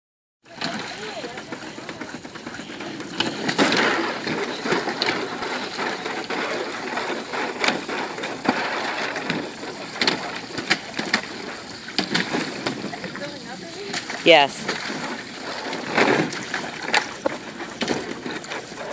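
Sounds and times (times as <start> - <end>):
water splashing in pool: 0.5 - 18.9.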